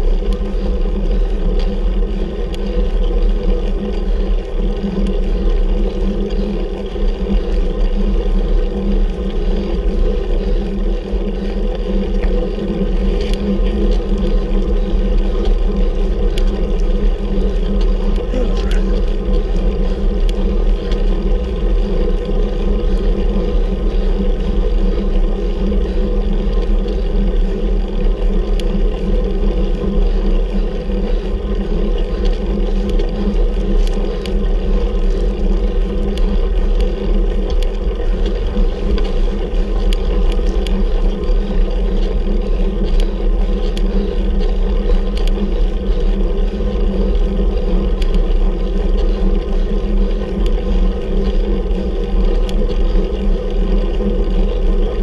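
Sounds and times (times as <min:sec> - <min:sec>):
bicycle ride rumbling: 0:00.0 - 0:55.0
faint ticks: 0:00.0 - 0:55.0.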